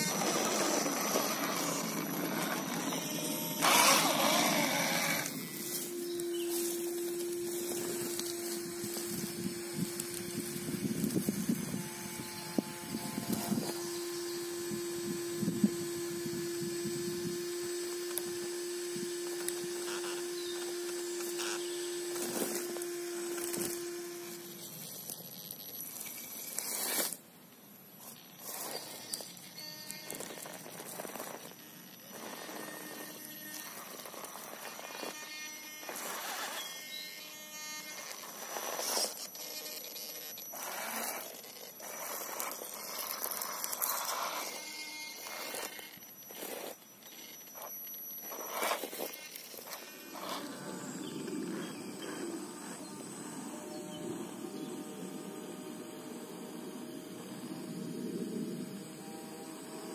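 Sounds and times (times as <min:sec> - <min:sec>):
electric motor whining: 0:00.0 - 0:27.2, 0:28.0 - 0:59.9.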